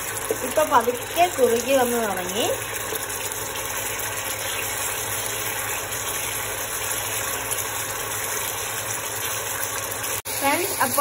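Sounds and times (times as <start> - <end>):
induction cooktop hum: 0.0 - 11.0
sauce simmering and sizzling: 0.0 - 11.0.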